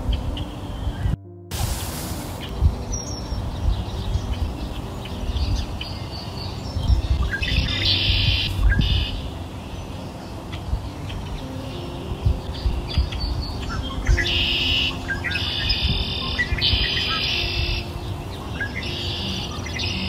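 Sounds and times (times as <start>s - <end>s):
birds chirping: 2.1s - 20.0s.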